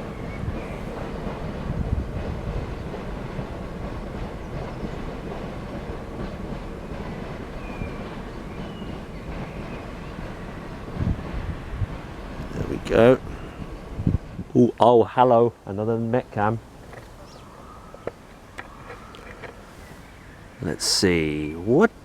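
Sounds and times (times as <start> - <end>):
train wheels rumbling past: 0.0 - 22.0.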